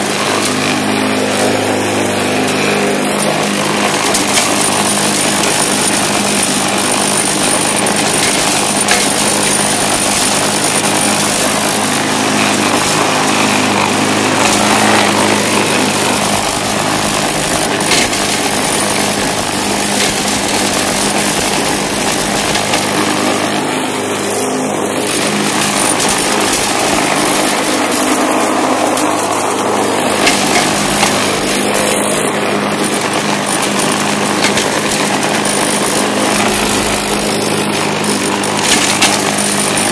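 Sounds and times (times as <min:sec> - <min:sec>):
push mower engine cutting grass: 0:00.0 - 0:39.9.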